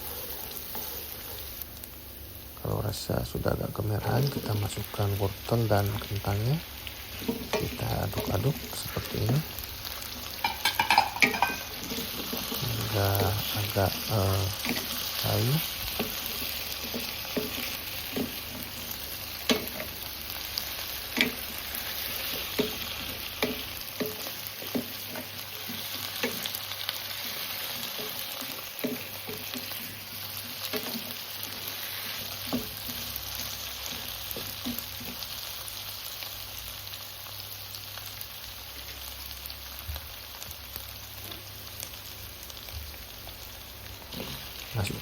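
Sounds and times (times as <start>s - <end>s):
vegetables sizzling in oil: 0.0s - 45.0s.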